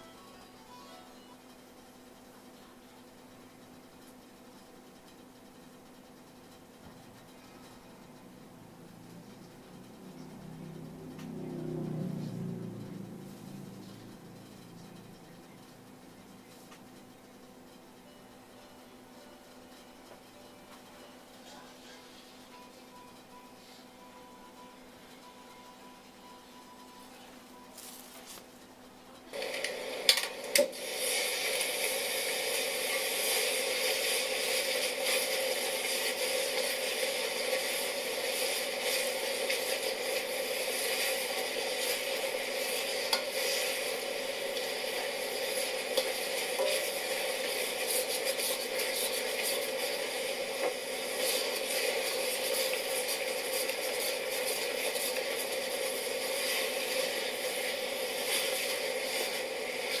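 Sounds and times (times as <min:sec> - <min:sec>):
pot bubbling and sizzling: 0:00.0 - 1:00.0.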